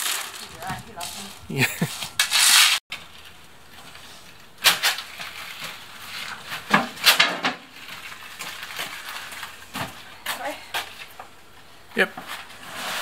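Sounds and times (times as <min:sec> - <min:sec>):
wheelbarrow clunking and rattling: 0:00.0 - 0:11.3.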